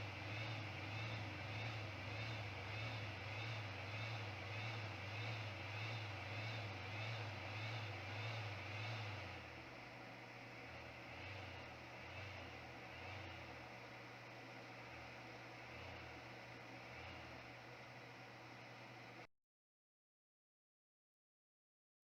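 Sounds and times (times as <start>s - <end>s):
blower fan humming: 0.0s - 19.3s.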